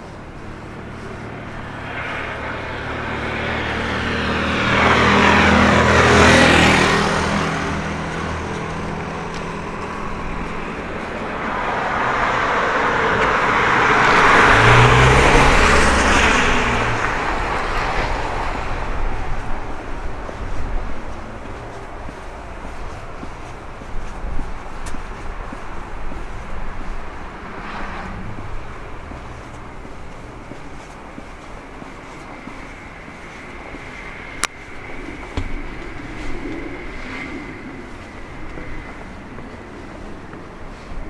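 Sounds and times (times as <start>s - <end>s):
cars driving past: 0.0s - 41.0s.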